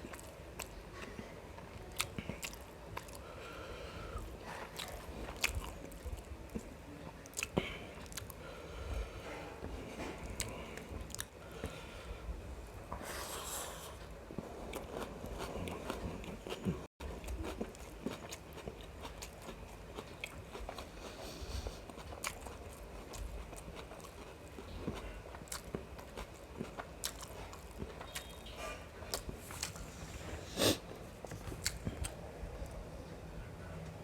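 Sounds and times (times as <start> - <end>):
person chewing food: 0.0 - 12.2, 13.0 - 32.8.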